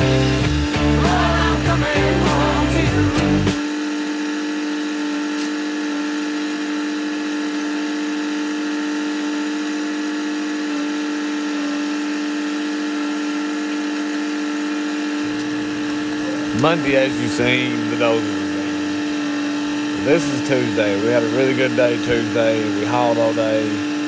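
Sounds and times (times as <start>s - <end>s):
log loader engine humming: 0.0s - 24.0s.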